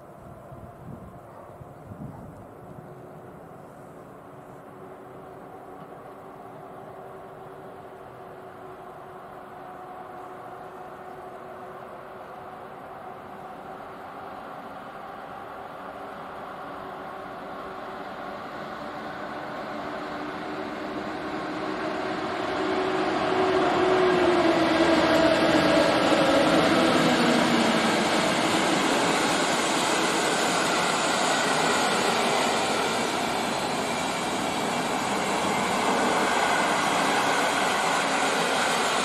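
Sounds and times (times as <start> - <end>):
locomotive whine: 0.0 - 39.0
train wheels on rails rushing: 0.0 - 39.0.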